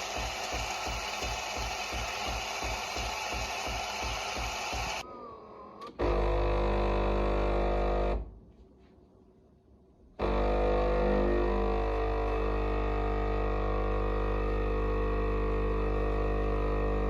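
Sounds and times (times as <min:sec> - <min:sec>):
espresso machine pump buzzing: 0:00.0 - 0:05.0, 0:06.0 - 0:08.3, 0:10.2 - 0:17.0.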